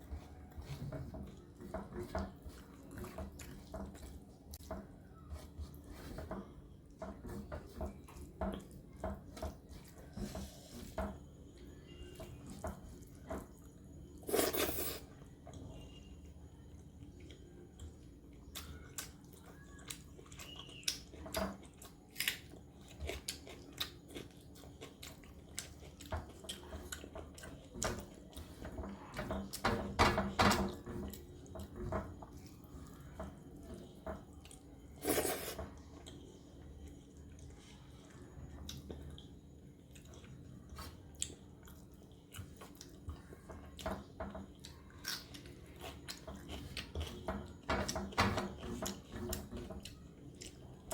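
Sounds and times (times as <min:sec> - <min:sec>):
chewing: 0:00.1 - 0:10.9, 0:16.7 - 0:29.6, 0:30.9 - 0:47.7, 0:48.6 - 0:50.9.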